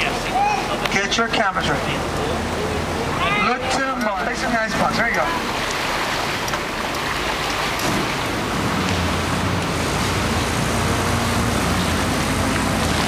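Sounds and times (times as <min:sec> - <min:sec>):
engine hum: 0:00.0 - 0:13.0
outdoor noise: 0:00.0 - 0:13.0.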